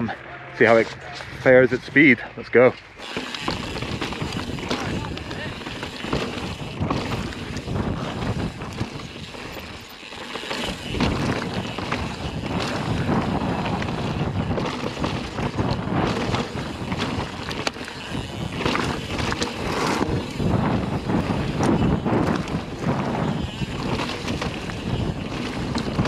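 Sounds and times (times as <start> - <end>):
bike tyres rumbling: 0.0 - 26.0
wind rushing over microphone: 0.0 - 26.0
bike clattering over rough ground: 2.7 - 26.0.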